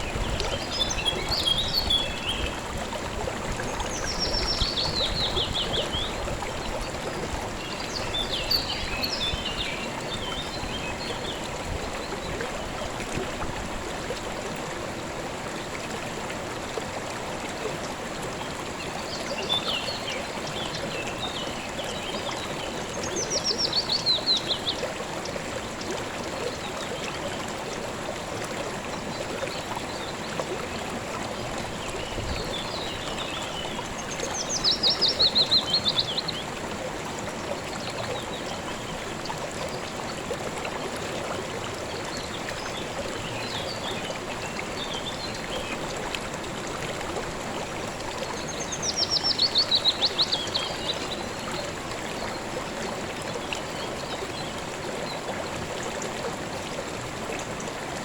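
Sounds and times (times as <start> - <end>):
calm river flowing: 0.0 - 58.0.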